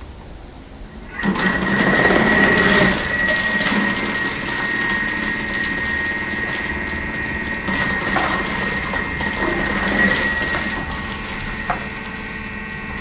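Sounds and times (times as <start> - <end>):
food processor motor whine: 1.1 - 13.0.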